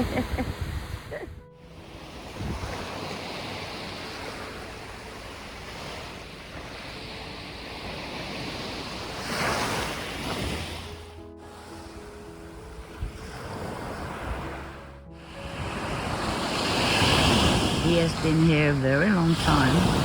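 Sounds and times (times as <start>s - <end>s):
sea waves washing onto beach: 0.0s - 20.0s.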